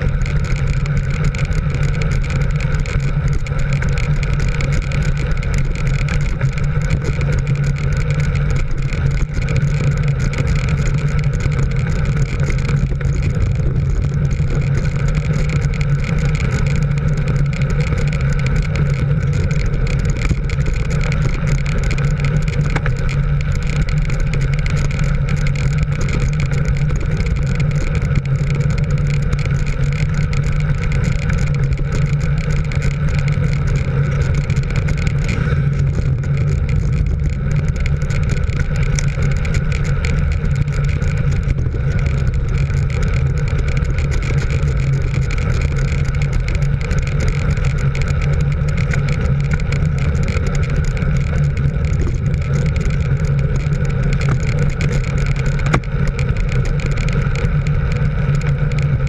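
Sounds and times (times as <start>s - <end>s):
vehicle engine drone: 0.0s - 59.0s
wind rush on microphone: 0.0s - 59.0s.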